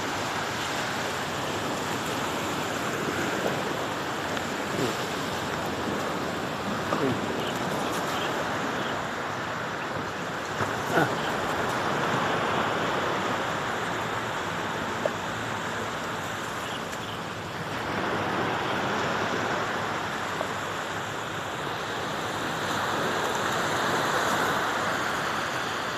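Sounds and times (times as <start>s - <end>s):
sea waves washing ashore: 0.0s - 25.9s.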